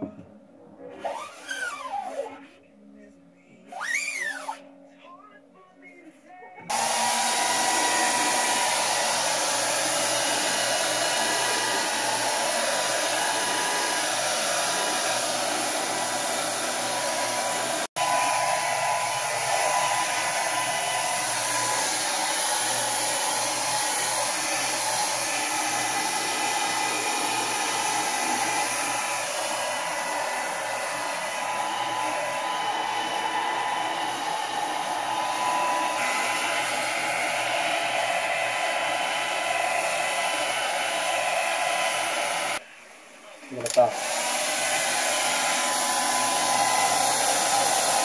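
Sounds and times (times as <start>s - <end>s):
hair dryer blowing: 6.7s - 42.6s, 43.6s - 48.0s.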